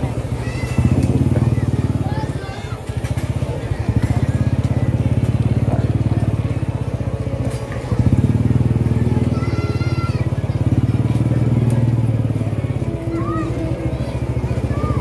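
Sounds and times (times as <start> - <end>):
small motorcycle engine puttering: 0.0 - 15.0.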